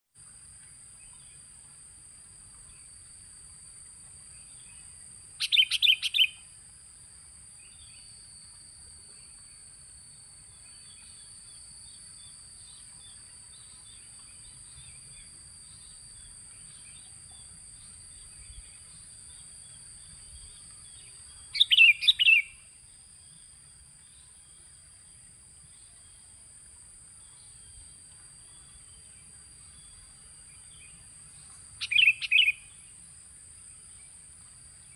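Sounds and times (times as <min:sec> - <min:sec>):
faint chirping of birds: 0:00.1 - 0:34.9.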